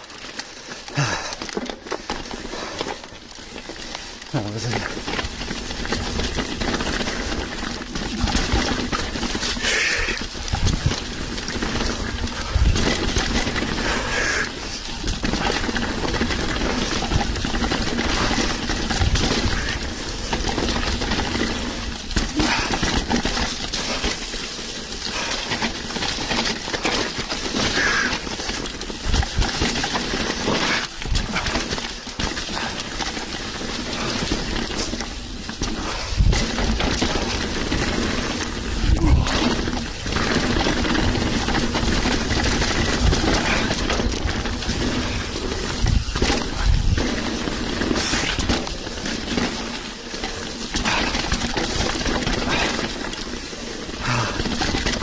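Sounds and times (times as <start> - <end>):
bike chain and frame rattling: 0.0 - 55.0
tyres rumbling over gravel: 0.0 - 55.0.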